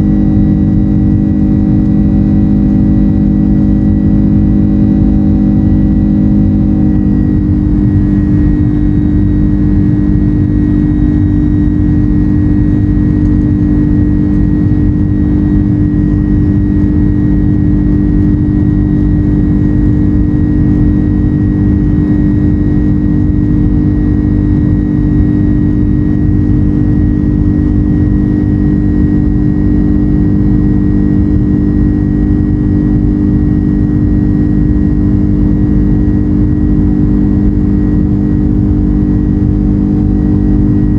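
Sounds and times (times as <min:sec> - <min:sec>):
jet engines droning in cabin: 0:00.0 - 0:40.9.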